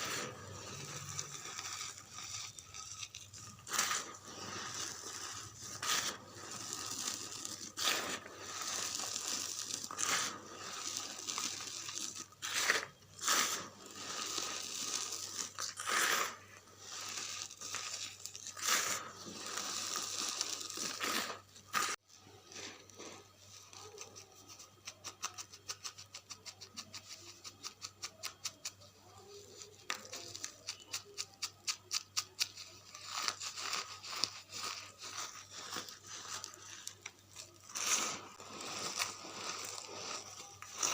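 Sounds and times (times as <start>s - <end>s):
charcoal crunching: 0.0s - 28.8s, 29.8s - 40.9s
small crisp crackles: 0.0s - 40.9s.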